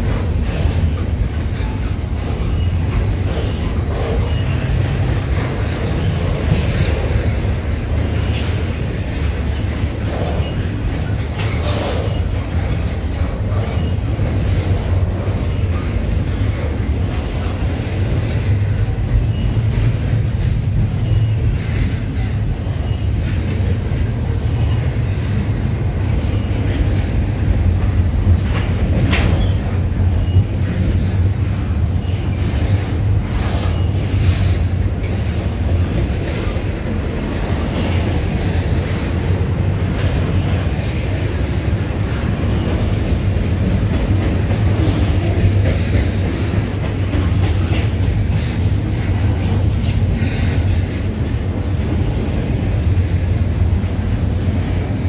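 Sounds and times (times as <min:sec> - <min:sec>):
freight train rumbling past: 0:00.0 - 0:55.0
wheels clicking over rail joints: 0:00.0 - 0:55.0.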